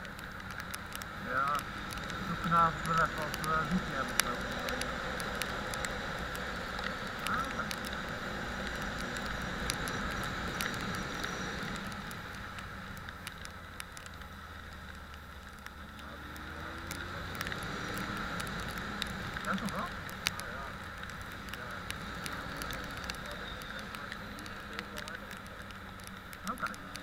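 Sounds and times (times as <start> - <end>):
road noise: 0.0 - 27.0.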